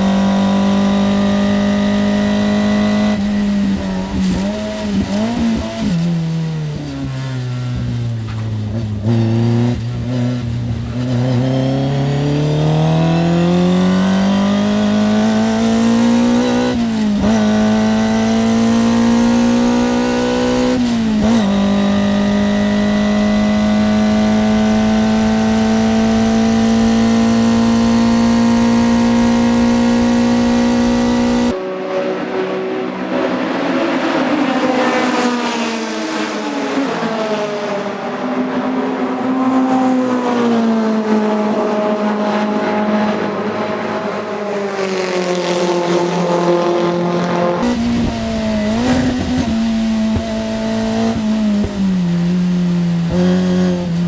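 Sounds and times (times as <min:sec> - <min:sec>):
racing engine revving: 0:00.0 - 0:37.8, 0:40.0 - 0:54.0.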